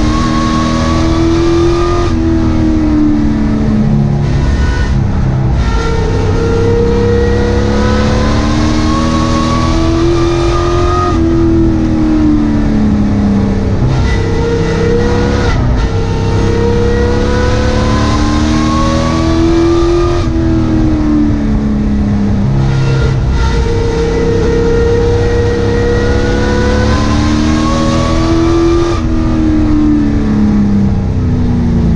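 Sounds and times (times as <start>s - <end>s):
race truck engine revving: 0.0s - 30.9s.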